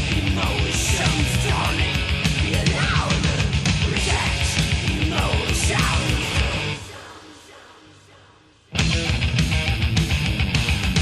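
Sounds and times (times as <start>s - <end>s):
thrash metal band playing: 0.0s - 7.5s, 8.7s - 11.0s.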